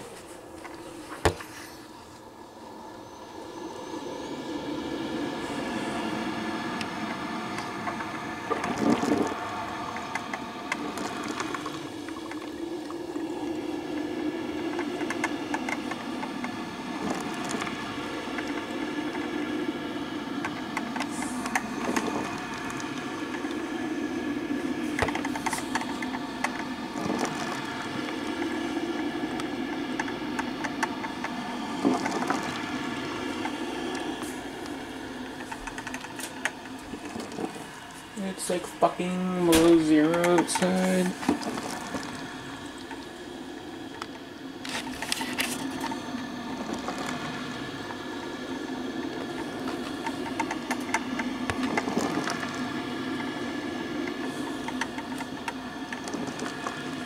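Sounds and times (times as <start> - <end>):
coffee maker gurgling and bubbling: 0.0 - 57.0.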